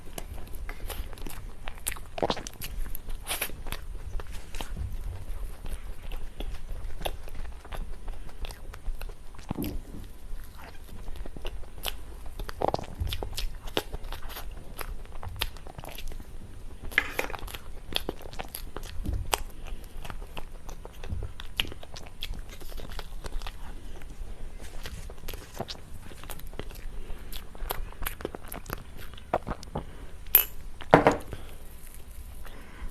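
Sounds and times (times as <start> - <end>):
person chewing cake: 0.0 - 32.9.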